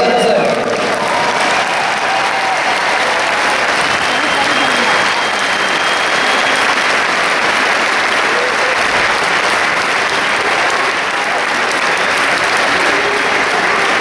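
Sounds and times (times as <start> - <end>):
large crowd applauding: 0.0 - 14.0.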